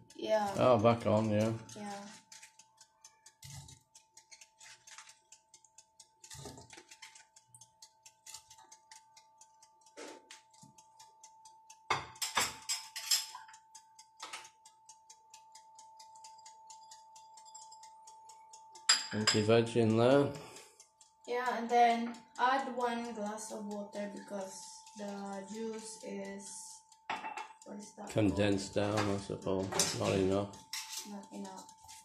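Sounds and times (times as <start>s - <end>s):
faint fast ticking: 0.0s - 32.0s.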